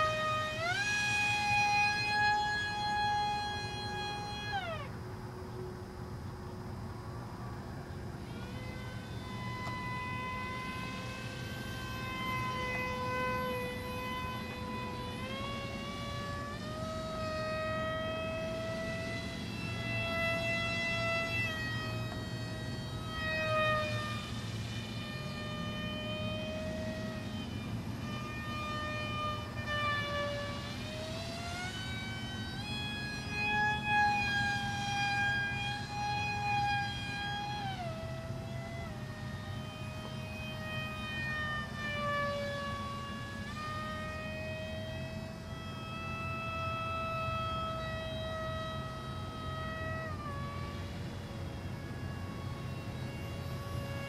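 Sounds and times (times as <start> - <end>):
model airplane motor whine: 0.0 - 54.0.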